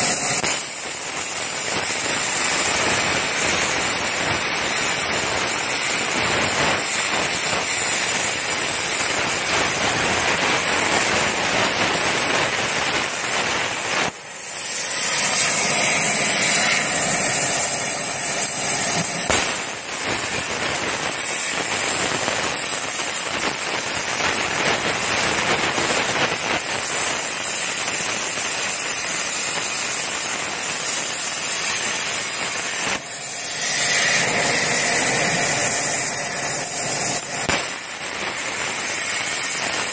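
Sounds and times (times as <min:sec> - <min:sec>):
plasma torch crackling hiss: 0:00.0 - 0:39.9.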